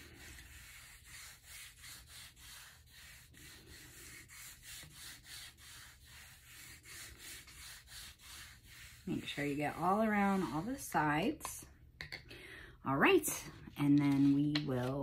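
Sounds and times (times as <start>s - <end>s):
cup rubbing over paper: 0.0s - 11.0s, 13.3s - 15.0s.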